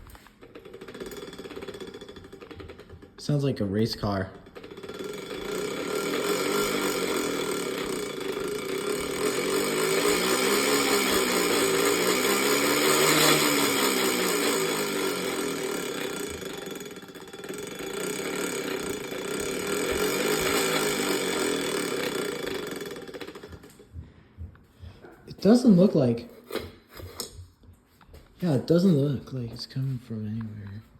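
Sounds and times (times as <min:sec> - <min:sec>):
ceiling fan grinding whine: 0:00.0 - 0:30.9.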